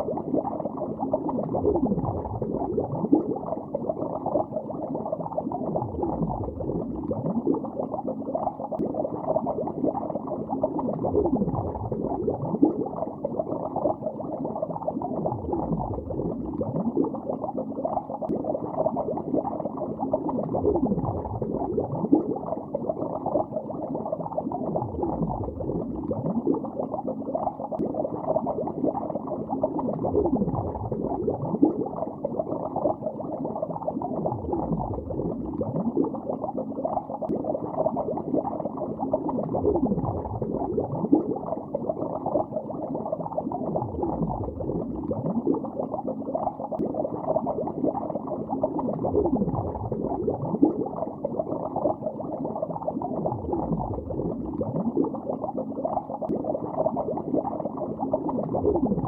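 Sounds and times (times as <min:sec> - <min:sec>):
underwater bubbling: 0:00.0 - 0:59.0.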